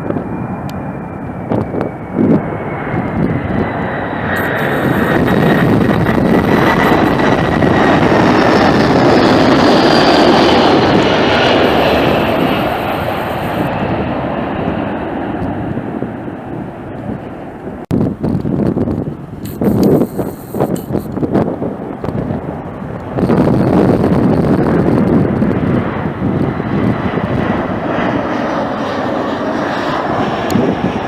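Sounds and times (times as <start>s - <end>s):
jet airliner engine roar: 0.0s - 31.0s
jet engine whine: 0.0s - 31.0s
wind buffeting microphone: 0.0s - 31.0s.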